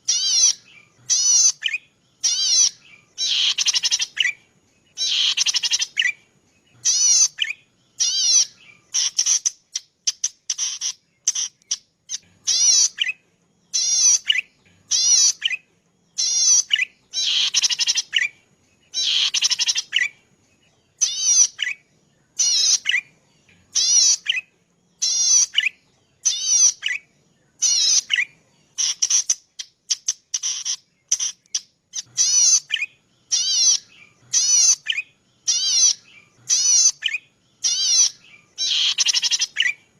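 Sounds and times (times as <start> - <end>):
bird singing quavering phrase: 0.0 - 39.9.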